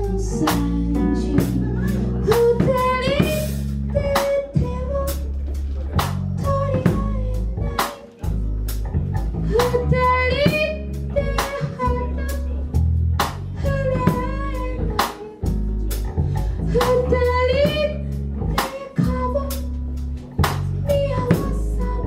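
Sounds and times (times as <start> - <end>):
bass guitar: 0.0 - 22.0
drum kit beat: 0.0 - 22.0.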